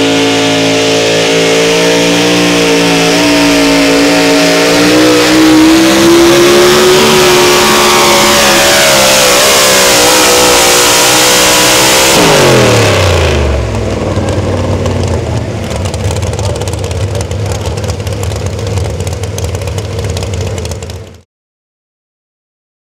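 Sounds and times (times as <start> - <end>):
truck engine revving then idling: 0.0 - 21.2.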